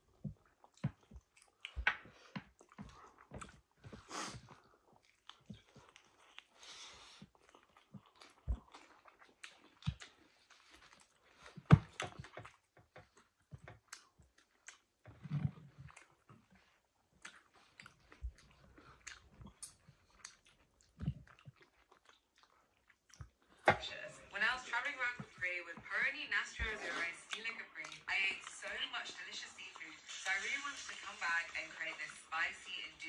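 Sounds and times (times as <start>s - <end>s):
people chewing and mouth smacks: 0.0s - 33.0s.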